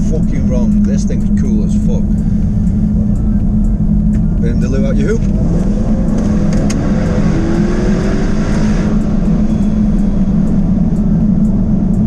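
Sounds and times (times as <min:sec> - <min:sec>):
car engine droning: 0:00.0 - 0:12.0
road rumble: 0:00.0 - 0:12.0
rush of wind: 0:02.0 - 0:12.0.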